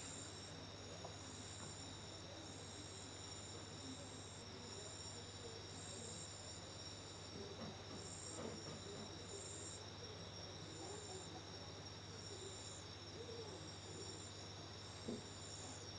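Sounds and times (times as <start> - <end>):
crickets trilling: 0.0 - 15.9.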